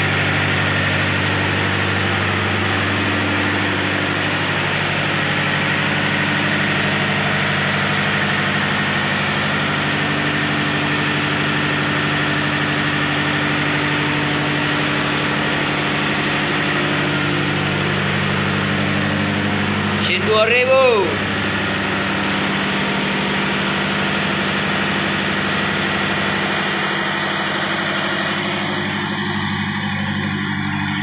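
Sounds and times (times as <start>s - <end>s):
diesel engines droning: 0.0s - 31.0s.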